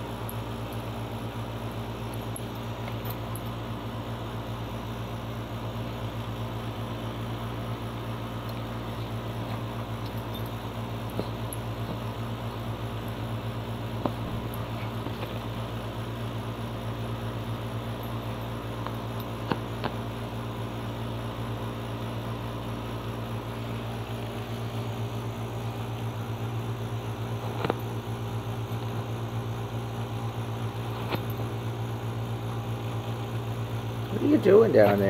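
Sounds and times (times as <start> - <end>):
machine hum with hiss: 0.0 - 35.0.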